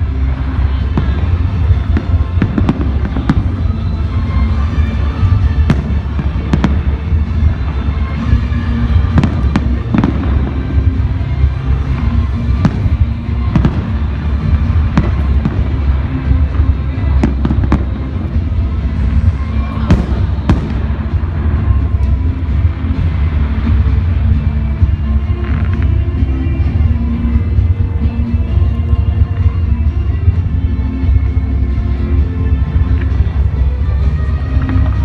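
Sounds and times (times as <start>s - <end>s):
continuous low rumble: 0.0s - 35.0s
fireworks bursting and crackling: 0.0s - 35.0s
music playing: 0.0s - 35.0s.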